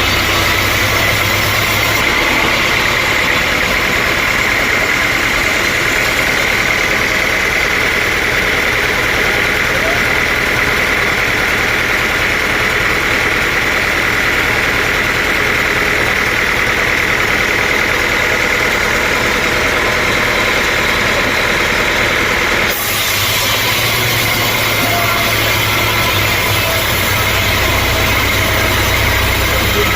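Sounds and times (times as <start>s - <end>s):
sawmill machinery whining: 0.0s - 29.9s.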